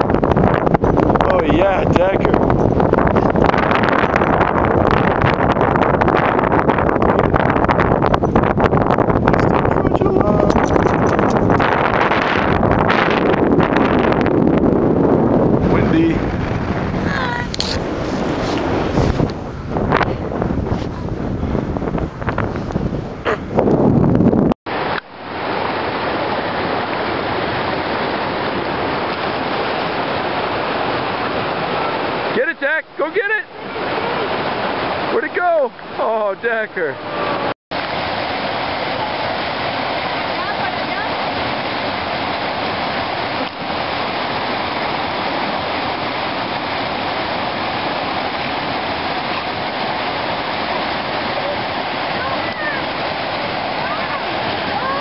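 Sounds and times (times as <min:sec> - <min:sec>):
creek rushing over stones: 0:00.0 - 0:23.1, 0:24.7 - 0:55.0.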